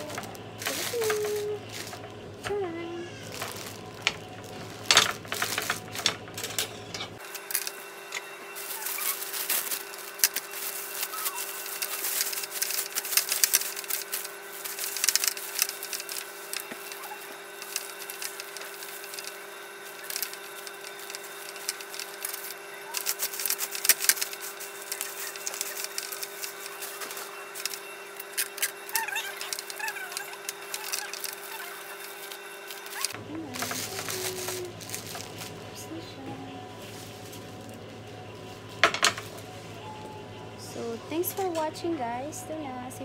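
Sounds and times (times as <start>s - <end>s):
cellophane wrap crinkling: 0.0s - 40.1s
faint hum: 0.0s - 43.0s.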